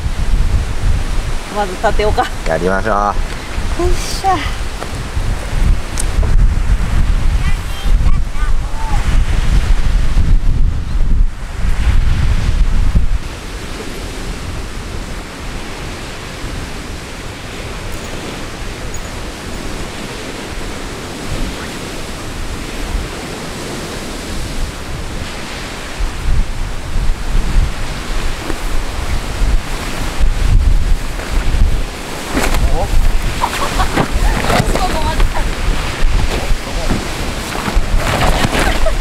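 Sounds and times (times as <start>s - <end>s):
strong wind buffeting microphone: 0.0s - 39.0s.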